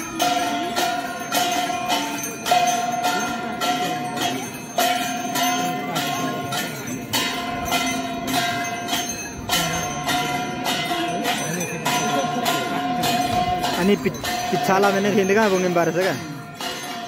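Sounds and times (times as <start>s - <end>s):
metallic bell-like strikes: 0.0s - 17.0s
murmur of a crowd: 0.0s - 17.0s.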